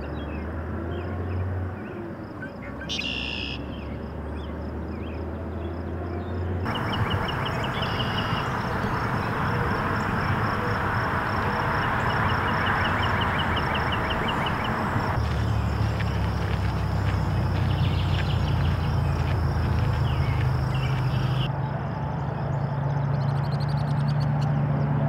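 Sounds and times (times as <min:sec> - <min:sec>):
blackbird song: 0:00.0 - 0:24.6
rushing outdoor background noise: 0:00.0 - 0:25.0.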